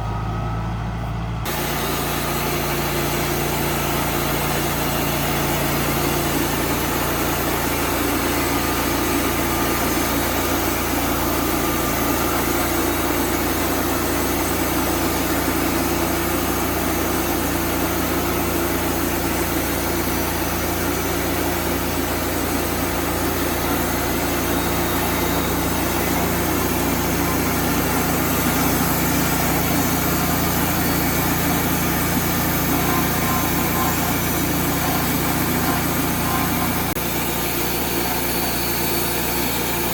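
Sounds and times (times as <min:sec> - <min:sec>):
motor engine running steadily: 0:00.0 - 0:39.9.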